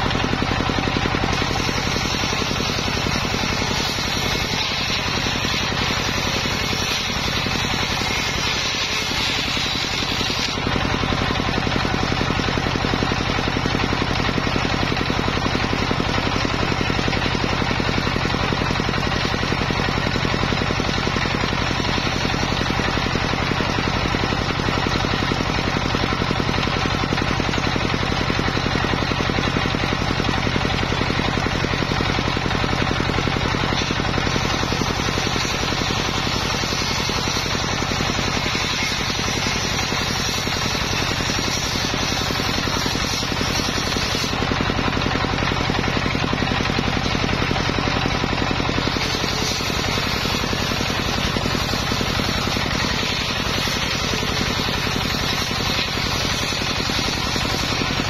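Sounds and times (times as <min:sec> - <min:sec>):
circular saw cutting bamboo: 0:00.0 - 0:58.0.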